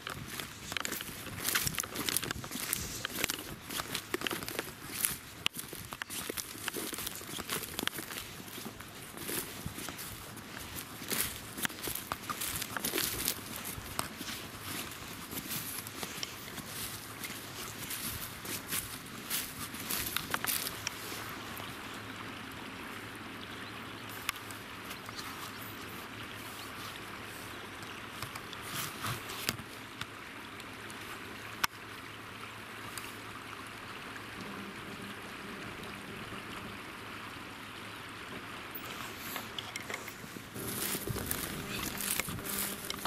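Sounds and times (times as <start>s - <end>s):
river water rushing: 0.0s - 43.0s.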